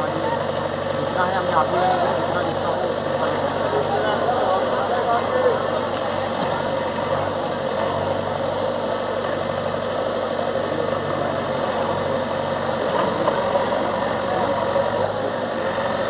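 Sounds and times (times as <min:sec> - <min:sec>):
bulldozer engine running: 0:00.0 - 0:16.0.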